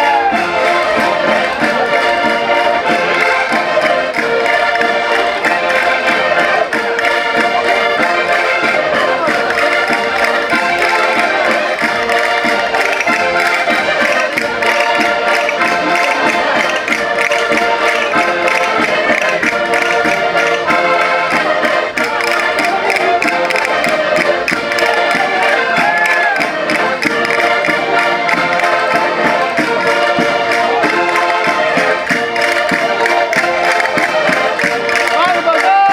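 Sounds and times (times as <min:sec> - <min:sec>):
button accordions playing lively music: 0:00.0 - 0:35.9.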